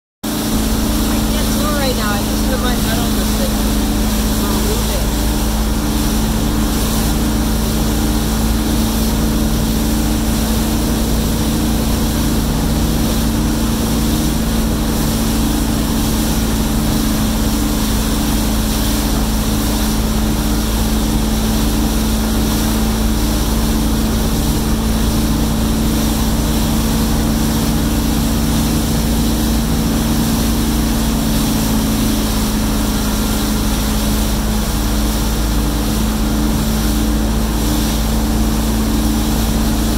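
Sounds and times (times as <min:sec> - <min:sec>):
boat engine droning: 0:00.2 - 0:39.9
churning wake rushing: 0:00.2 - 0:39.9.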